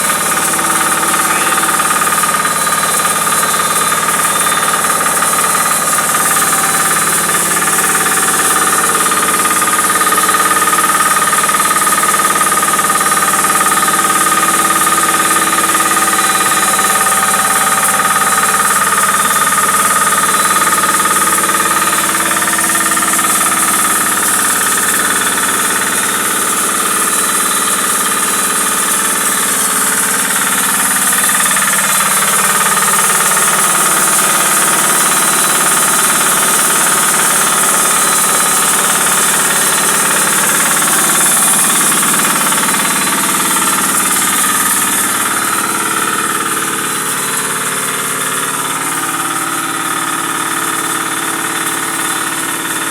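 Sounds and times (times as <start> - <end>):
grinding machine din: 0.0 - 52.9.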